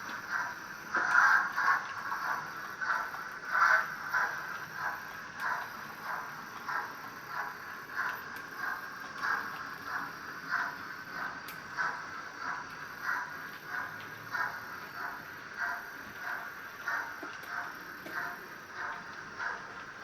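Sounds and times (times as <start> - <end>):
steam locomotive chuffing from speaker: 0.0 - 20.0.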